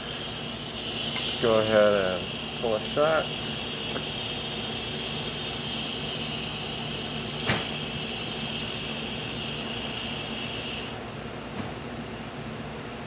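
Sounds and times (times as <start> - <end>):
espresso machine hissing: 0.0 - 11.2.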